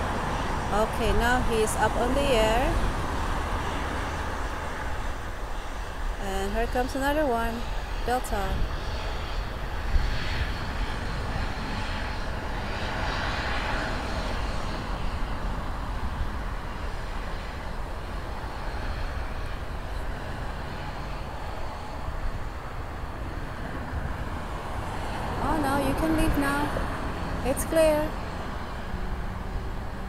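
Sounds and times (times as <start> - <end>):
jet engines humming: 0.0 - 30.0
wind rumble on microphone: 0.0 - 30.0.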